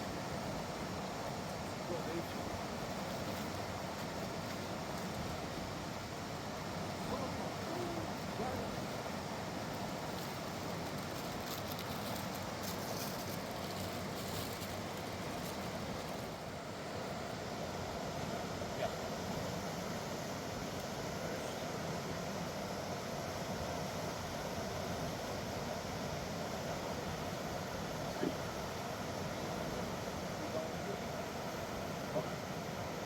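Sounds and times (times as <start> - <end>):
river roaring over rocks: 0.0 - 33.0.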